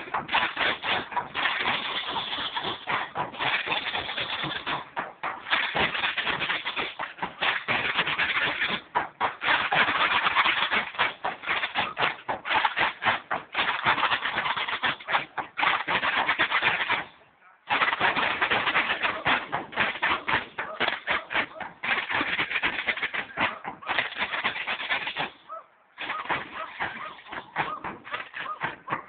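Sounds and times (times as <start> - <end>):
bass and snare drums beating: 0.0 - 29.0.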